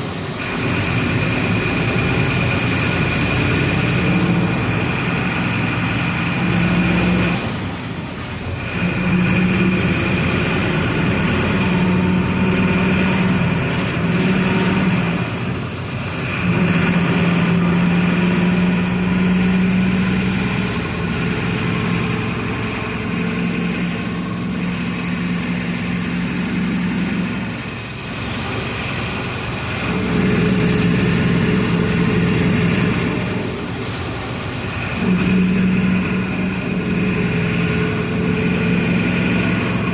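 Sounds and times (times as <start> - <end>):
bus diesel engine shifting gears: 0.0 - 39.9.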